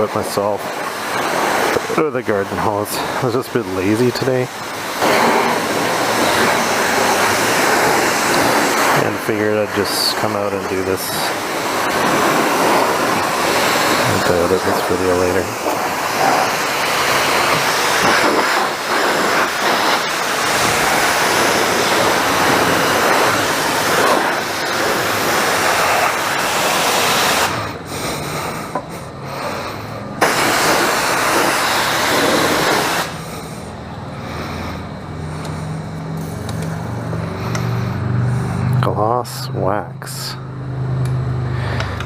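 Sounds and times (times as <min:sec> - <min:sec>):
pressure washer spraying water: 0:00.0 - 0:33.8.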